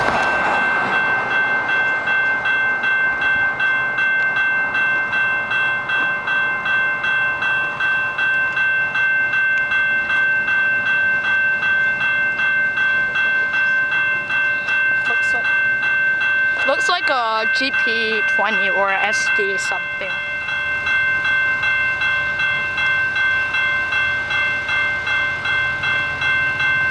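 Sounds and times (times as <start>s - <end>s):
railroad crossing bell ringing: 0.0s - 26.9s.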